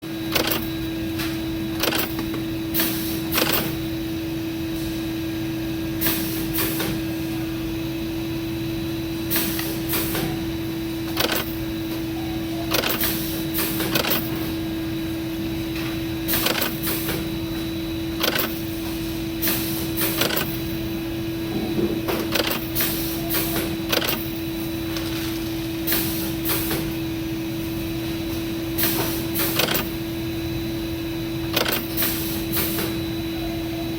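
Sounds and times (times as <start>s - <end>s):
factory machinery humming: 0.0s - 33.9s.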